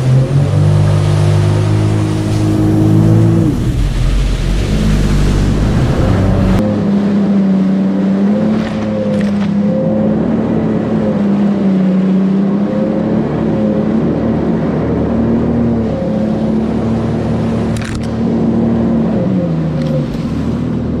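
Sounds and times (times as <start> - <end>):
jet ski engine running: 0.0 - 21.0.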